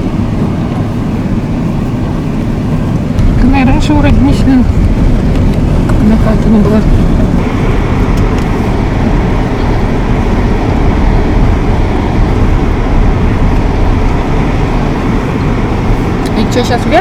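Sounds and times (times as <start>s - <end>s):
car rumbling over dirt track: 0.0s - 17.0s.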